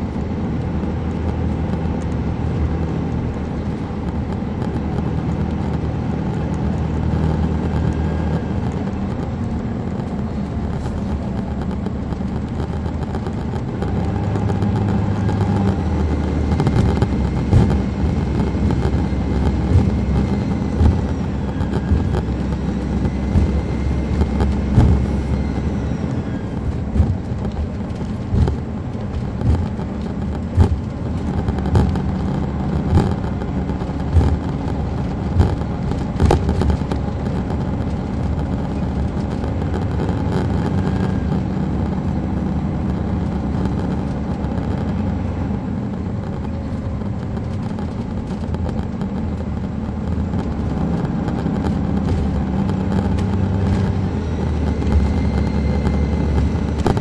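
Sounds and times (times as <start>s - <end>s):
coach diesel engine: 0.0s - 57.0s.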